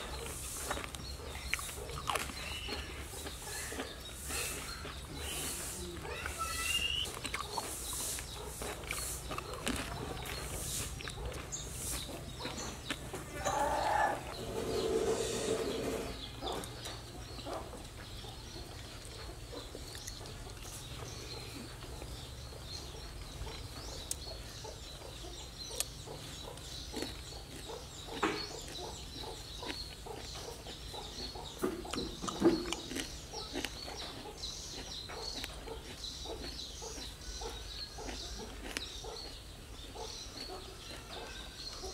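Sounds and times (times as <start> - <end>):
farm animal calling: 0.0 - 41.9.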